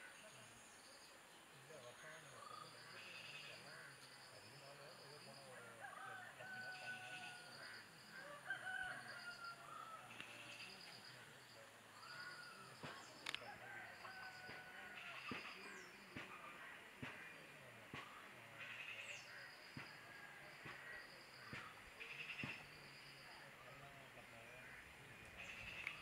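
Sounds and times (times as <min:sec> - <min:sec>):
distant birds calling: 0:00.0 - 0:26.0.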